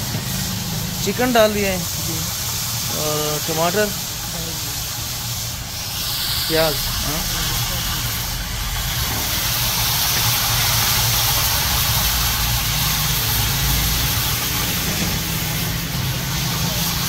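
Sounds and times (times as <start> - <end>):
gas burner rumbling and hissing: 0.0 - 17.0.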